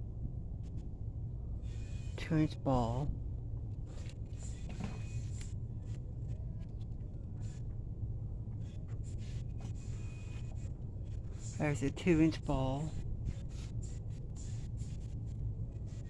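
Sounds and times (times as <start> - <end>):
store background hum: 0.0 - 16.0.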